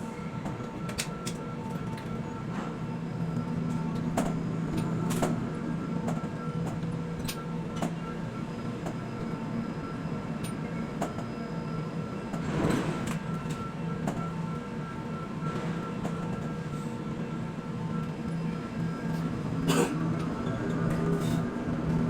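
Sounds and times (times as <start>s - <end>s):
crane machinery humming: 0.0s - 22.0s.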